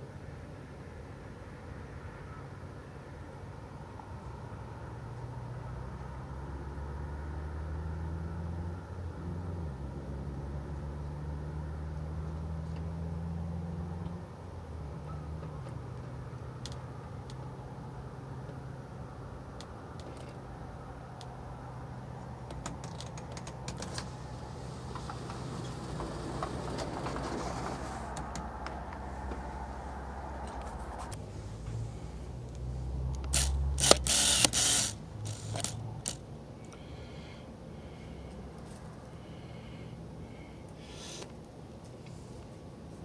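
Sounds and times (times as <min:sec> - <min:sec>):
low engine-like hum: 0:00.0 - 0:43.0.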